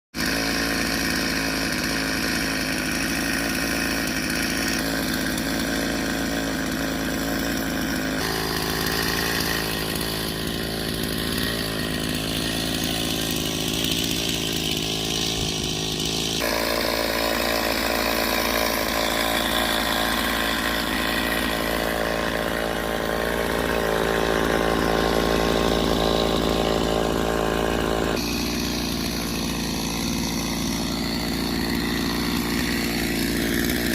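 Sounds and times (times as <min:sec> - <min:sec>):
chainsaw cutting tree: 0:00.1 - 0:33.9.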